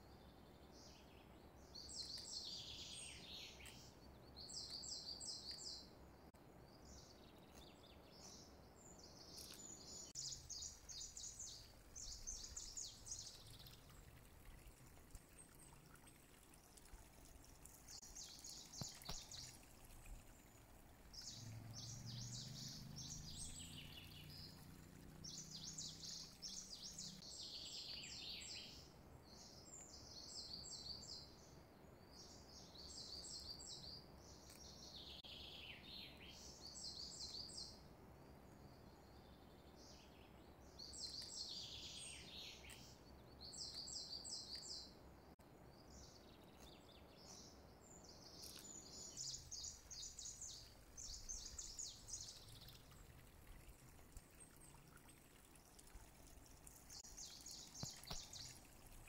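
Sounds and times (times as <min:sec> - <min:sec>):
faint bird chirps and trills: 0:00.0 - 0:59.0.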